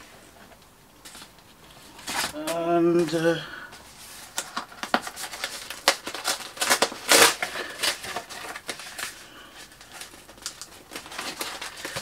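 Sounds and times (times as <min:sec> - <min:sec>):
packaging rustling and crackling: 0:01.0 - 0:03.2, 0:03.8 - 0:12.0.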